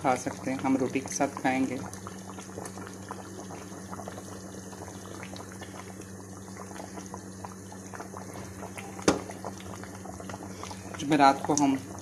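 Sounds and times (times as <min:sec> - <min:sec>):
gravy bubbling in a pot: 0:00.0 - 0:12.0.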